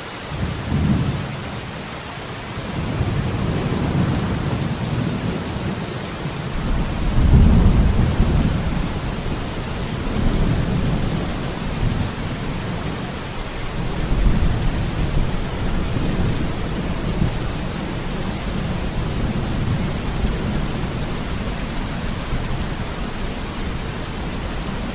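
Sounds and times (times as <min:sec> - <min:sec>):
heavy rain falling: 0:00.0 - 0:24.9
low rolling thunder: 0:02.6 - 0:24.9.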